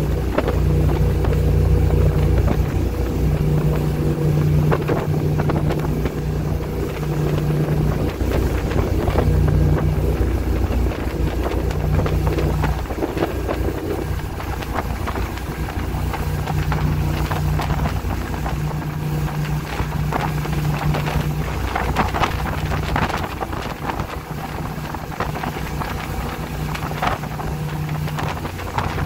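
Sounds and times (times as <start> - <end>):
boat engines droning: 0.0 - 29.0
wake rushing: 0.0 - 29.0
wind buffeting microphone: 0.0 - 29.0.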